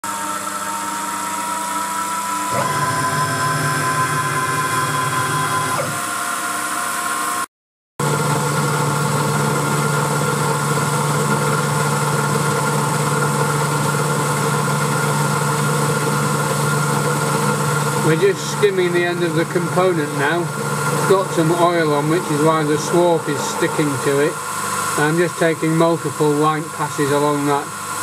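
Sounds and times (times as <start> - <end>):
end mill cutting metal: 0.1 - 7.2, 8.0 - 28.0
mill spindle whining: 0.1 - 7.2, 8.0 - 28.0.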